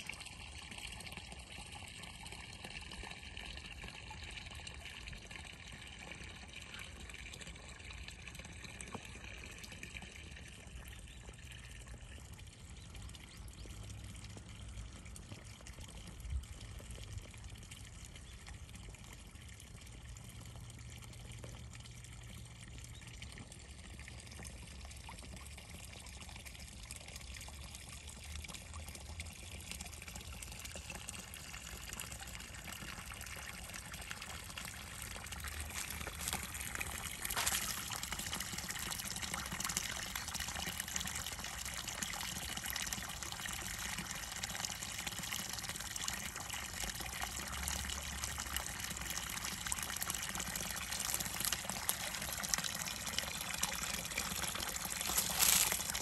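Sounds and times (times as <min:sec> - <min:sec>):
water trickling into pool: 0:00.0 - 0:56.0.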